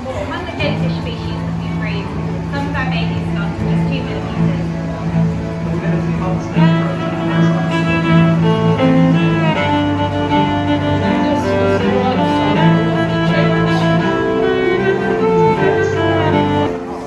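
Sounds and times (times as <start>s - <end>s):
bowed strings slow held notes: 0.0s - 17.0s.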